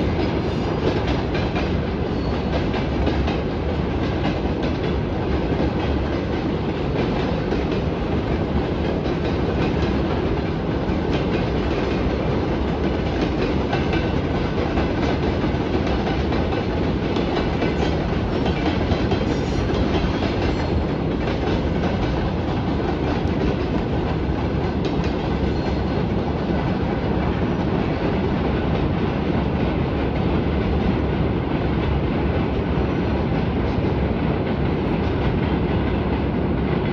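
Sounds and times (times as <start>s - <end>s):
wheels clacking over rail joints: 0.0s - 30.8s
train wheels rumbling on rails: 0.0s - 36.9s.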